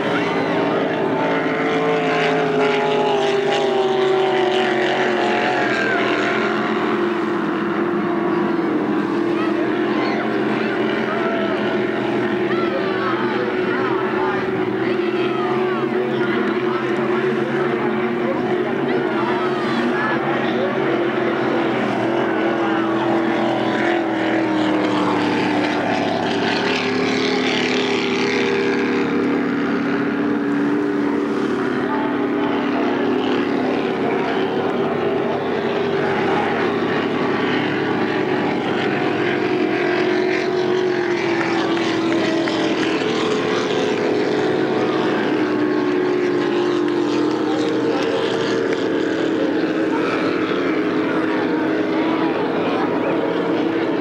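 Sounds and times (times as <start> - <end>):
racing powerboat engines droning: 0.0 - 54.0.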